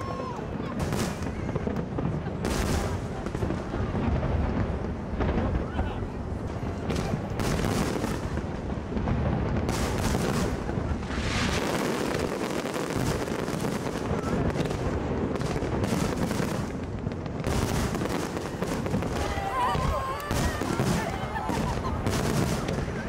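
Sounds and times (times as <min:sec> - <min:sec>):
fireworks booming and crackling: 0:00.0 - 0:23.0
hissing fireworks crackle: 0:00.0 - 0:23.0.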